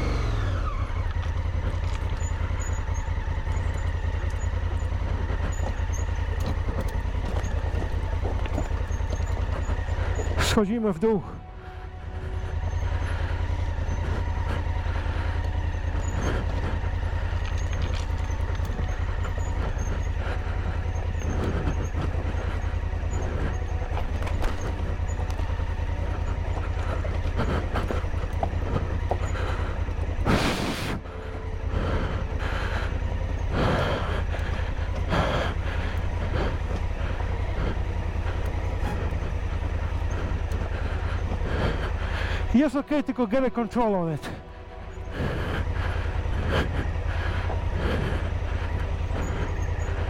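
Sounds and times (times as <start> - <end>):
motorcycle engine low rumble: 0.0 - 50.0.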